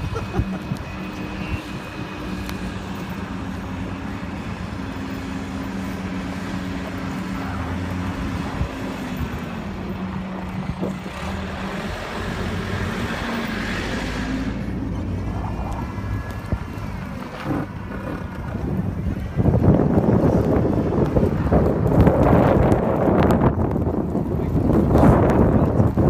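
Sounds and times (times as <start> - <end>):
car engine hum: 0.0 - 26.0
road noise: 0.0 - 26.0.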